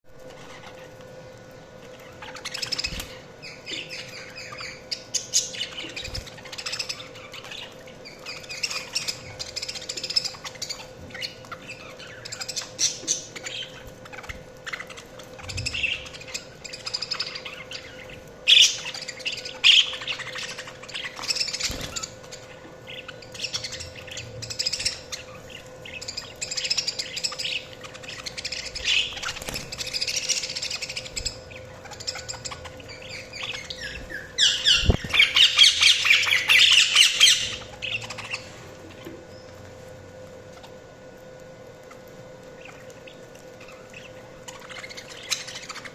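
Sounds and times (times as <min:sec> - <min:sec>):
faint hum: 0:00.1 - 0:45.9
budgies chirping and warbling: 0:00.2 - 0:45.9.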